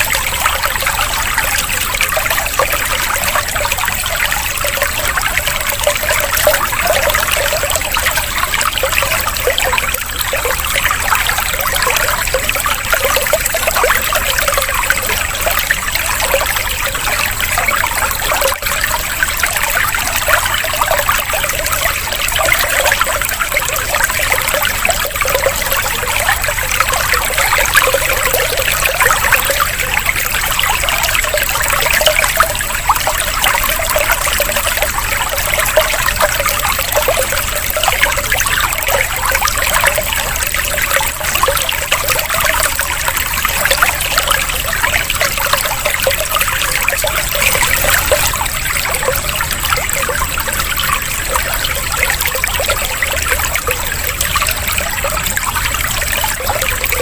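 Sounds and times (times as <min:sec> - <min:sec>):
trickling burbling water: 0:00.0 - 0:57.0.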